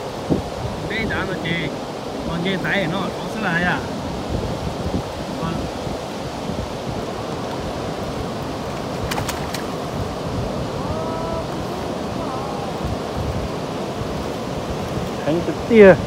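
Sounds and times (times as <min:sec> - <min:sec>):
river water rushing over weir: 0:00.0 - 0:16.0
wind on microphone: 0:00.0 - 0:16.0.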